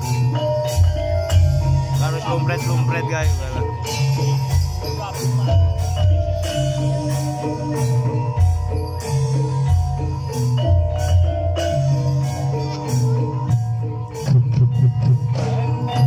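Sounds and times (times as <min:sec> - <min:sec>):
metallophones playing a melody: 0:00.0 - 0:16.0
sharp percussion strikes: 0:00.0 - 0:16.0.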